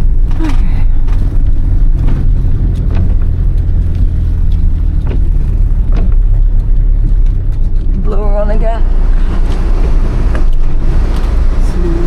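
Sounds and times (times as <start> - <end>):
diesel engine running: 0.0 - 12.0
tyres rumbling on dirt road: 0.0 - 12.0.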